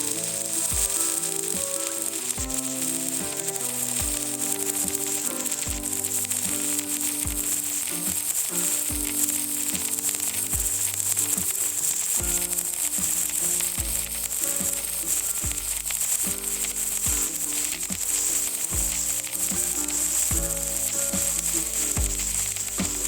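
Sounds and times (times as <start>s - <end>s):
music with a beat: 0.0s - 23.0s
welding arc crackling: 0.0s - 23.0s.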